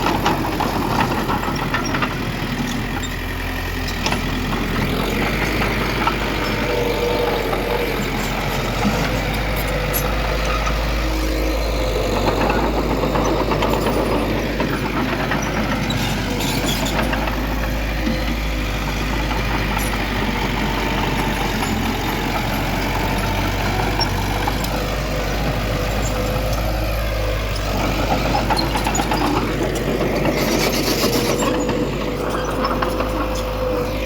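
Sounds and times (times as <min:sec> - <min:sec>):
heavy diesel engine rumbling: 0:00.0 - 0:34.0.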